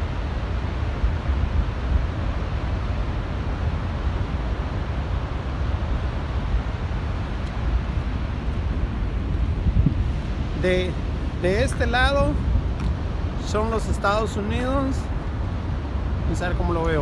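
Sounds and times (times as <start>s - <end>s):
waterfall roaring: 0.0s - 17.0s
wind buffeting microphone: 0.0s - 17.0s.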